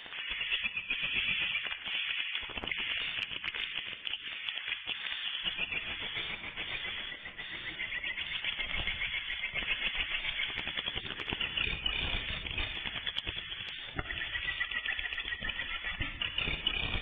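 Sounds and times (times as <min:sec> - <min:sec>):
swiftlets chirping and twittering: 0:00.0 - 0:17.0.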